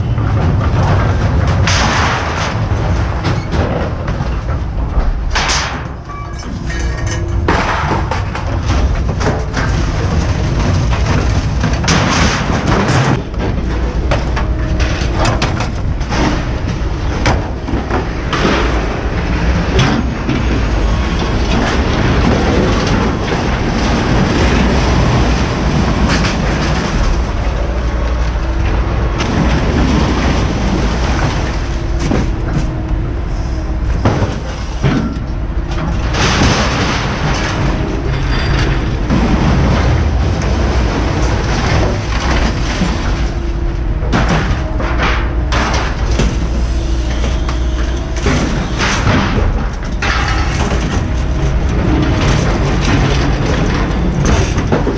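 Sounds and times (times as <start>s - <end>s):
scrap metal clanging and crashing: 0.0s - 54.9s
steady low rumble: 0.0s - 54.9s.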